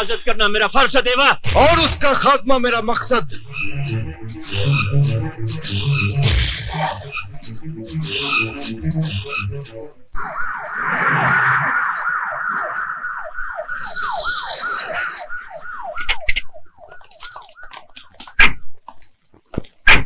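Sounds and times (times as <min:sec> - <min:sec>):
police siren sweeping: 0:01.5 - 0:18.5.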